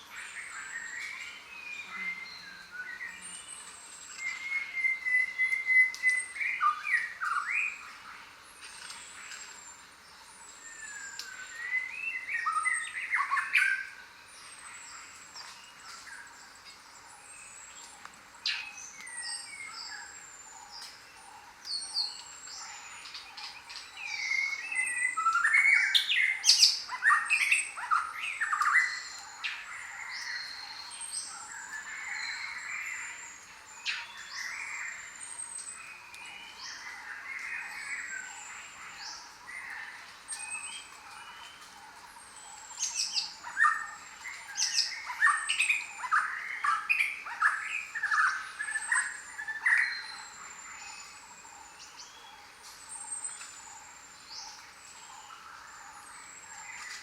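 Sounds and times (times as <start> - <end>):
jungle birds chirping: 0.0 - 57.0.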